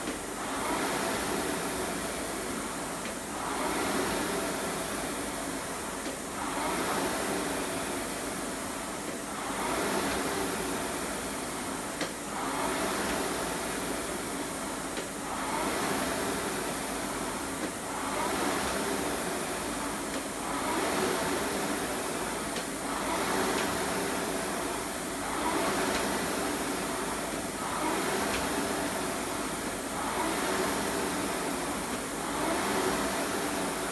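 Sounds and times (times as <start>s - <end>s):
rowing machine flywheel whooshing: 0.0s - 33.9s.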